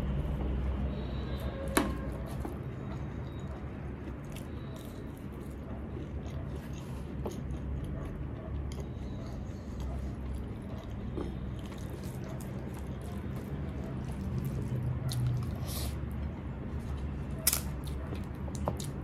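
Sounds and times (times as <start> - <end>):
person chewing fried food: 2.0 - 19.0.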